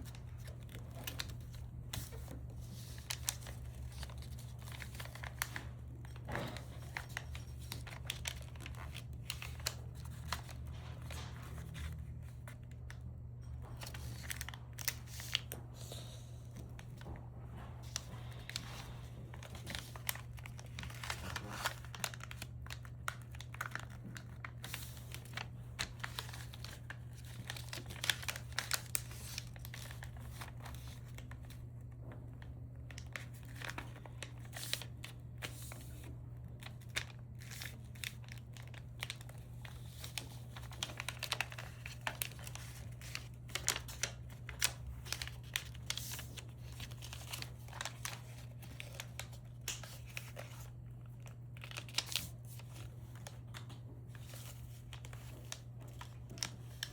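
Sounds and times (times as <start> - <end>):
material crinkling by hand: 0.0 - 13.0, 17.9 - 31.6, 32.9 - 56.9.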